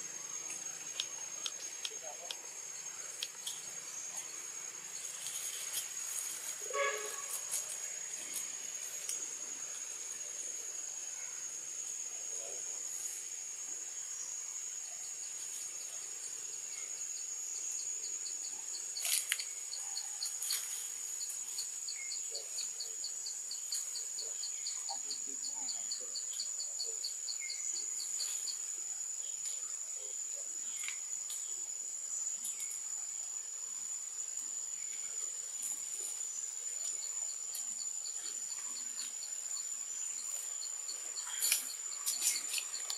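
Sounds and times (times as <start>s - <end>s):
insect high-pitched drone: 0.0s - 42.9s
pulsing insect call: 0.0s - 42.9s.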